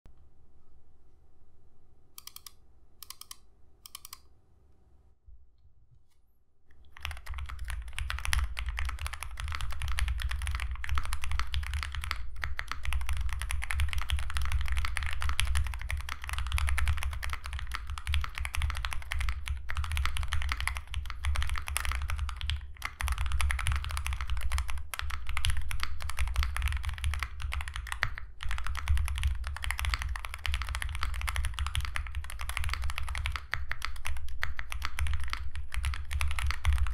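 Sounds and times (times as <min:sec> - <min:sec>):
mechanical keyboard typing: 0:02.2 - 0:04.3, 0:06.8 - 0:36.9.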